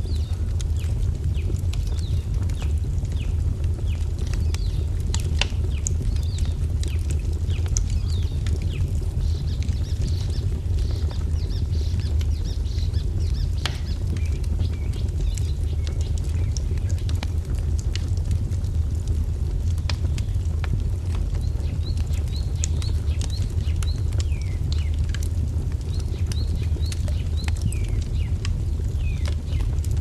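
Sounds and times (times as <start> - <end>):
small birds chirping: 0.0 - 17.2, 21.3 - 30.0
wood fire crackling: 0.0 - 30.0.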